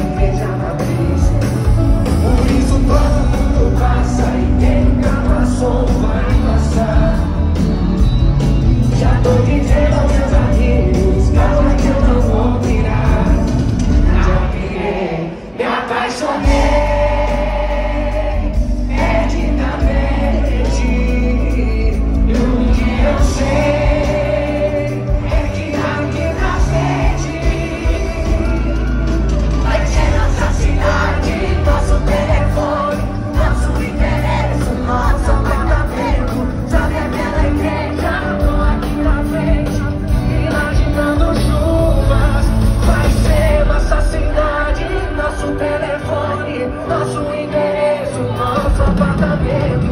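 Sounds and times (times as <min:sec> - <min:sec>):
heavy bass and drums: 0:00.0 - 0:14.8, 0:16.4 - 0:45.6
crowd singing along: 0:00.0 - 0:49.9
live band playing: 0:00.0 - 0:49.9.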